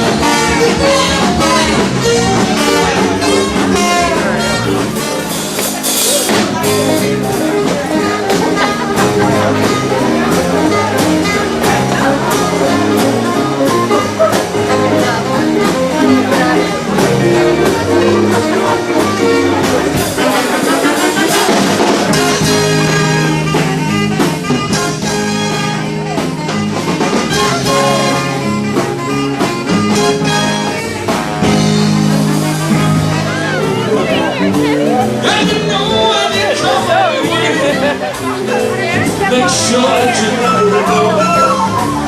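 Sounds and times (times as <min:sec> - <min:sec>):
live dance band playing: 0:00.0 - 0:42.0
steady drum beat: 0:00.0 - 0:42.0.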